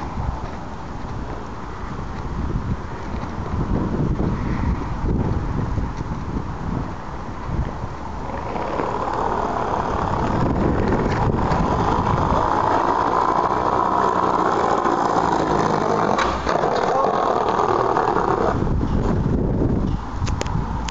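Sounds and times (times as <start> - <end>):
skateboard wheels rolling on paving: 0.0 - 20.9
wind buffeting microphone: 0.0 - 20.9.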